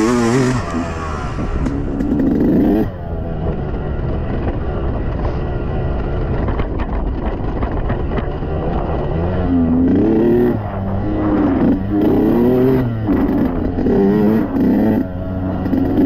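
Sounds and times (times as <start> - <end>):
two-stroke engine revving: 0.0 - 6.6, 7.4 - 16.0.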